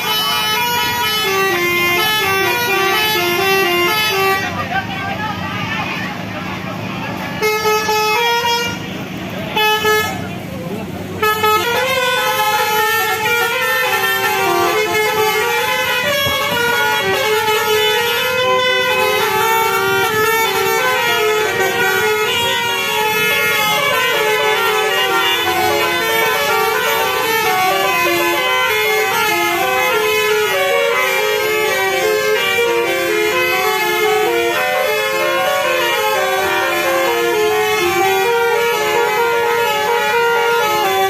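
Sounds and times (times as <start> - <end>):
melodic air horn: 0.0 - 4.6, 7.4 - 10.3, 11.2 - 41.0.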